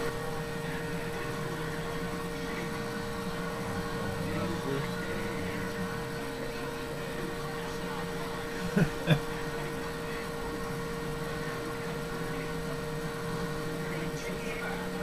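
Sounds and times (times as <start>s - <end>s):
faint television sound: 0.0s - 15.0s
steady hum: 0.0s - 15.0s.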